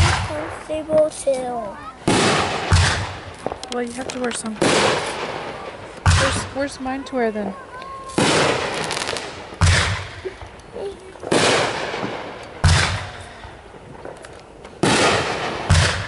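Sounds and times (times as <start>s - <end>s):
fireworks bangs with crackling: 0.0s - 16.0s.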